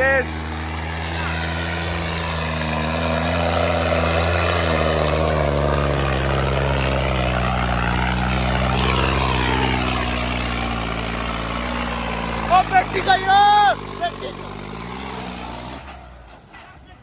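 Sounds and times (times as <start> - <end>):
tractor engine at high revs: 0.0 - 16.7.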